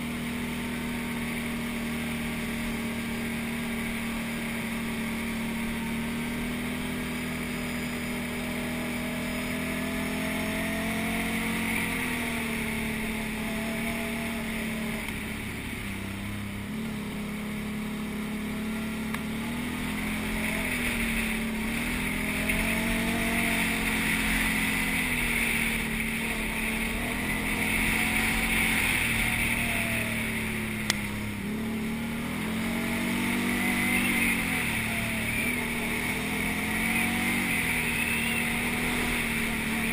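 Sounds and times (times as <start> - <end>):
quad bike engine revving: 0.0 - 39.9
wind and riding hiss: 0.0 - 39.9.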